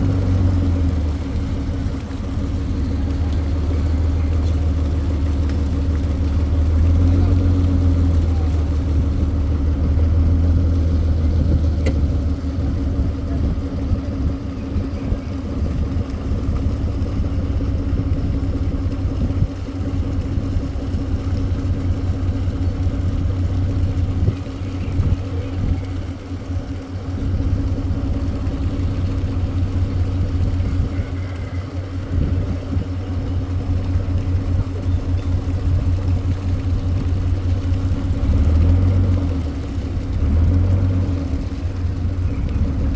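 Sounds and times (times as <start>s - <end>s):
engine droning steadily: 0.0s - 42.9s.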